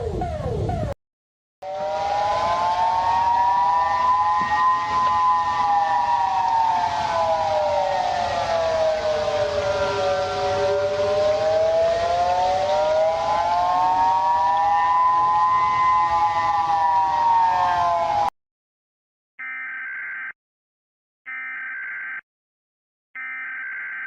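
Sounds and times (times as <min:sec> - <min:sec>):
warning siren wailing: 0:00.0 - 0:01.0, 0:01.6 - 0:18.3, 0:21.3 - 0:22.2, 0:23.2 - 0:24.0.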